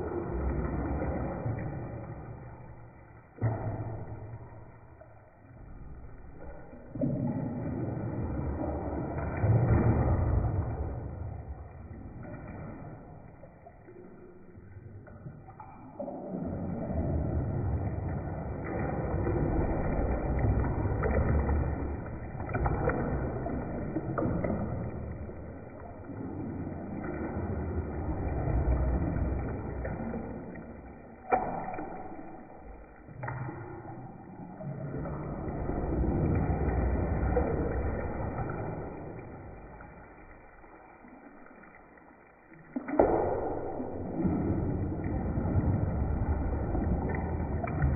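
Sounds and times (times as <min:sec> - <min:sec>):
bathwater sloshing: 0:00.0 - 0:47.9.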